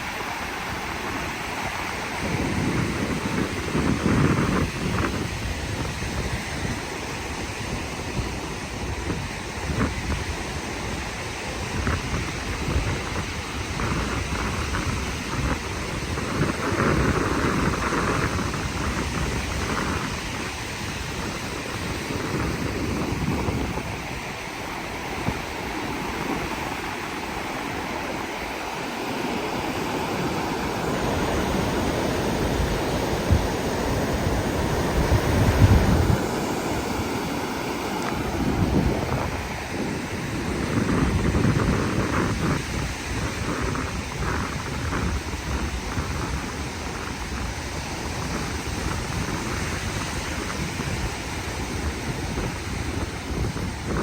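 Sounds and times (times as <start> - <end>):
sea wash: 0.0 - 54.0
wind buffeting microphone: 0.0 - 54.0.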